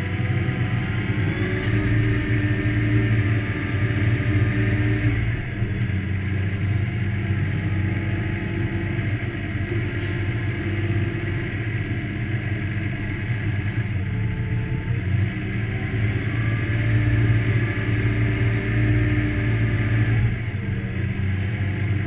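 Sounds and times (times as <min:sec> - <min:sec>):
tractor engine droning from cab: 0:00.0 - 0:22.0.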